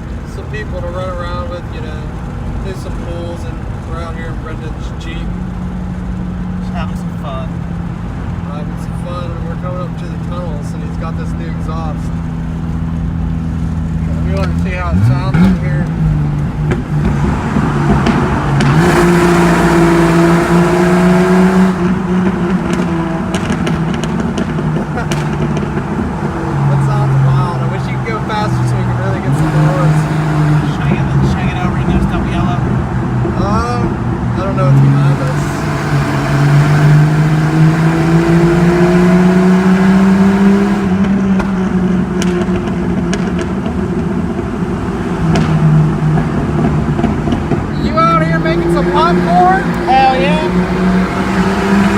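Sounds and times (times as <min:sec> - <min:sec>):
car engine exhaust drone: 0:00.0 - 0:51.9.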